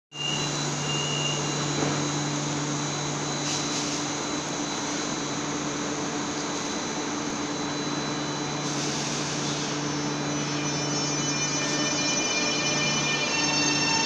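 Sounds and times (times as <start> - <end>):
electric train hum and whine: 0.1 - 14.0.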